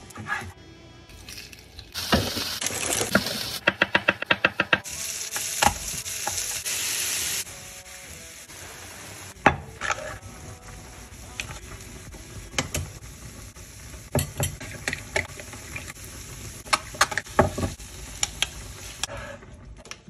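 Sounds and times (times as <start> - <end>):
food sizzling in a frying pan: 1.1 - 3.8, 4.8 - 19.1.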